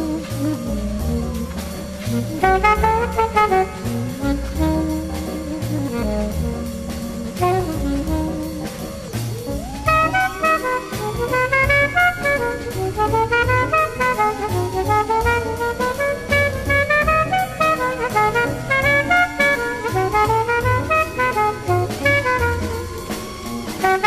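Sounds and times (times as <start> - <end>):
brass horn melody: 0.0 - 24.0
drum kit beat: 0.0 - 24.0.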